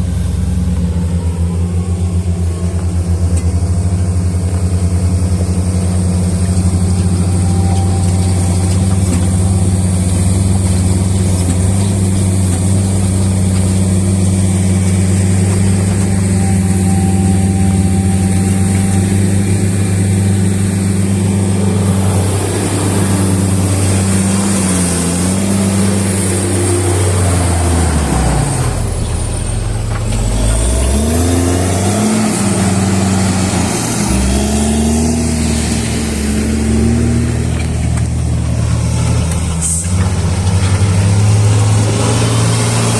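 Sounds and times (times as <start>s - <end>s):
heavy vehicle engine running: 0.0s - 42.9s.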